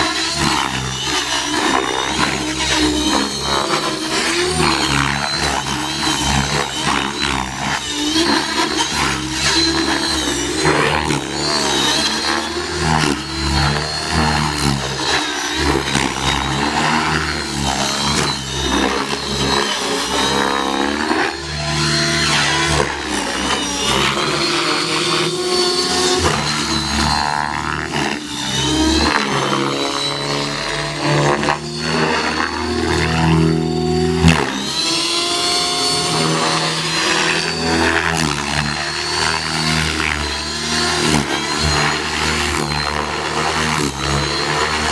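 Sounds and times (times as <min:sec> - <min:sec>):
rc helicopter rotor and motor whining: 0:00.0 - 0:44.9.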